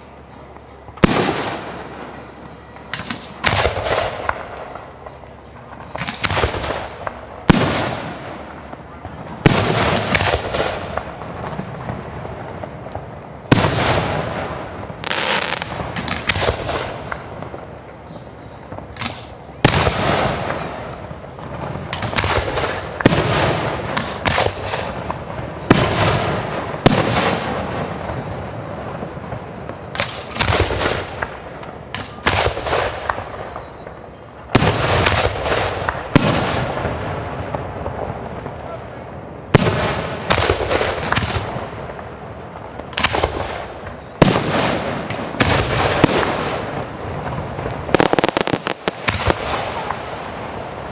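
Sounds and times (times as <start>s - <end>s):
fireworks bursting: 0.0s - 50.9s
rumbling echo: 0.0s - 50.9s.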